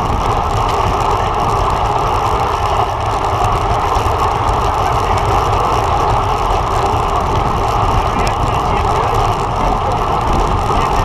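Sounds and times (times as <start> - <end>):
constant low rumble: 0.0 - 11.0
road noise: 0.0 - 11.0
wind rushing on microphone: 0.0 - 11.0.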